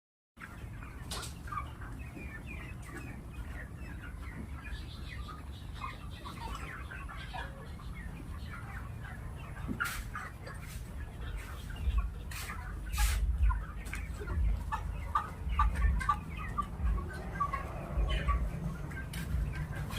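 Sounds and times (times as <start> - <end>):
chickens peeping and clucking: 0.4 - 19.9.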